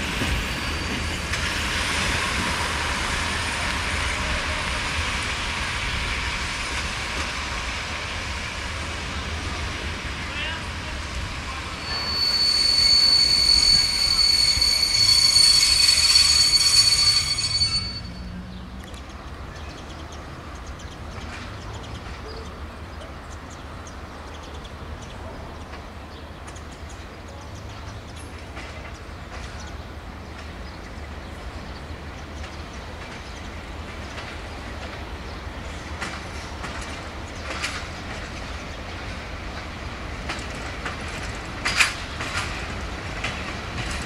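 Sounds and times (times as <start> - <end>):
train rolling over pointwork: 0.0 - 19.5, 23.5 - 44.0
train wheels squealing on rails: 0.0 - 44.0.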